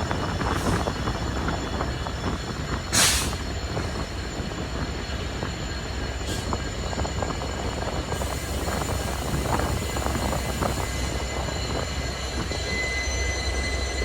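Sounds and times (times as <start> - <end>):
passenger train rumbling: 0.0 - 14.0.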